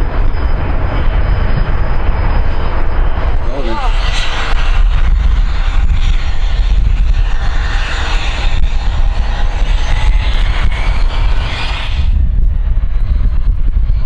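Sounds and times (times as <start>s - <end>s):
aircraft engines running: 0.0s - 14.0s.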